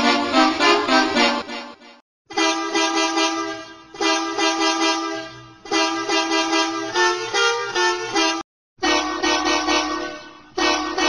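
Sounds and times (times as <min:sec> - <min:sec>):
multi-tone bus horn blasts: 0:00.0 - 0:11.0.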